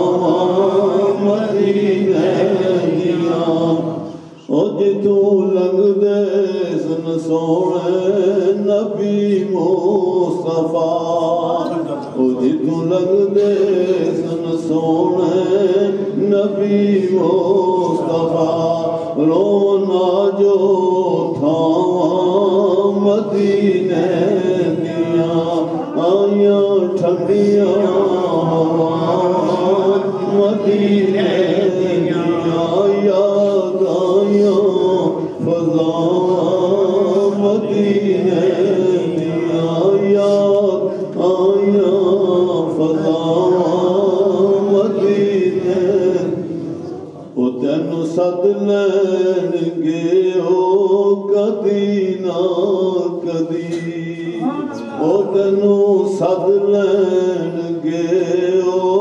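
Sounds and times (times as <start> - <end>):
man chanting: 0.0 - 59.0.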